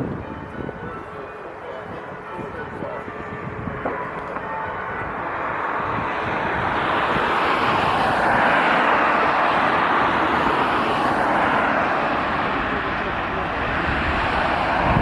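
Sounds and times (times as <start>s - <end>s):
jet engines rushing: 1.8s - 15.0s.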